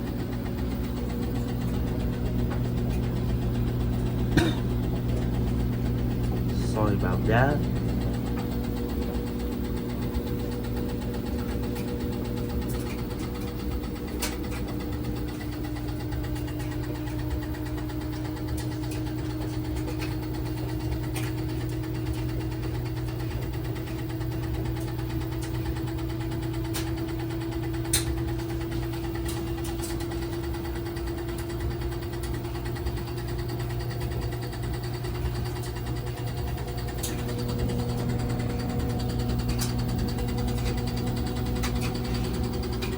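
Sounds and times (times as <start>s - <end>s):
washing machine spinning: 0.0s - 42.9s.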